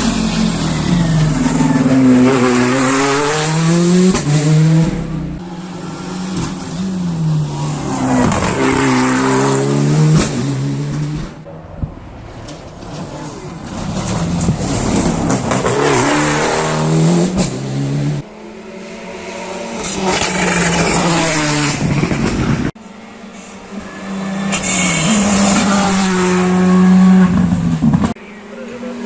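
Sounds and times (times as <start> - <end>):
rally car engines revving: 0.0 - 29.0.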